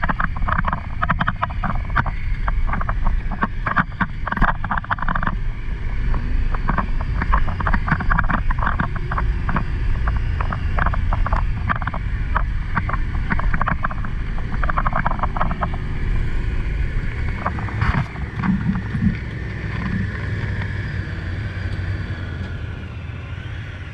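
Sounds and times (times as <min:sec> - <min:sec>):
clattering and rattling: 0:00.0 - 0:16.4, 0:17.0 - 0:20.7
vehicle engine rumble: 0:00.0 - 0:23.9.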